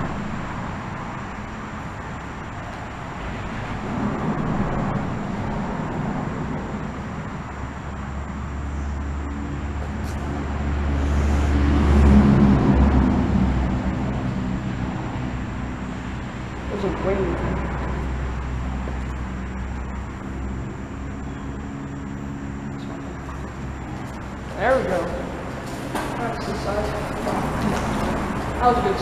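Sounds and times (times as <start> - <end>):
road traffic noise: 0.0 - 29.0
vehicle passing close by: 0.0 - 29.0.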